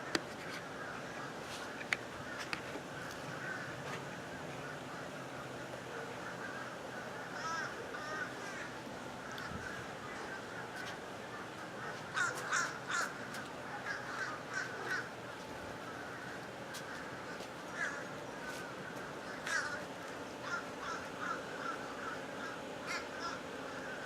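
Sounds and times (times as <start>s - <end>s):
crows cawing: 0.0s - 24.0s.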